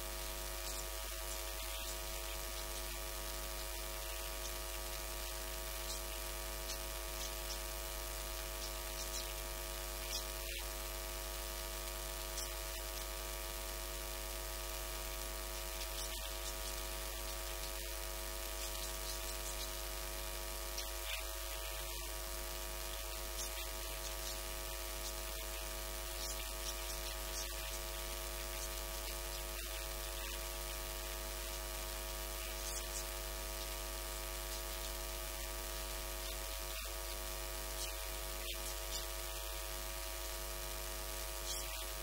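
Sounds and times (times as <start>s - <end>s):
electrical mains hum: 0.0s - 42.0s
faint hiss: 0.0s - 42.0s.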